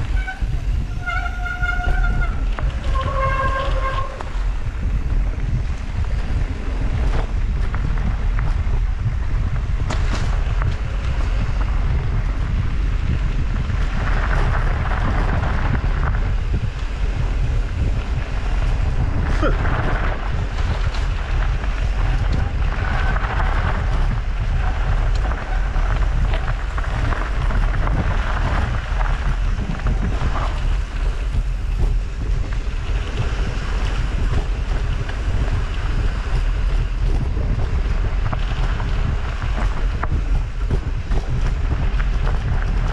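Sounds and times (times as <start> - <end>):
bike clicks and rattles: 0.0 - 42.9
tyres on dirt trail: 0.0 - 42.9
wind buffeting microphone: 0.0 - 42.9.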